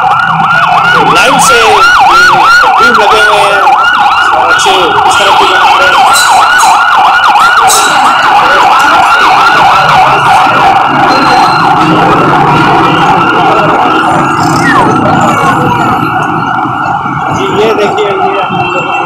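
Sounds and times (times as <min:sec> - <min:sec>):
siren yelping: 0:00.0 - 0:19.0
street noise: 0:00.0 - 0:19.0.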